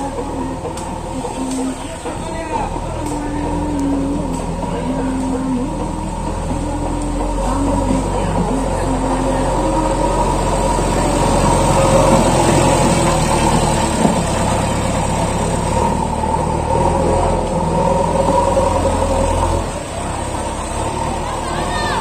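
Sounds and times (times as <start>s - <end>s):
diesel engine running hard: 0.0s - 22.0s.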